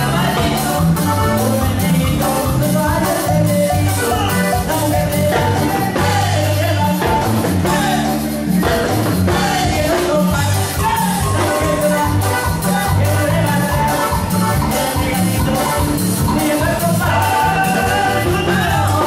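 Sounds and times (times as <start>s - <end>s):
live band playing latin dance music: 0.0s - 19.0s.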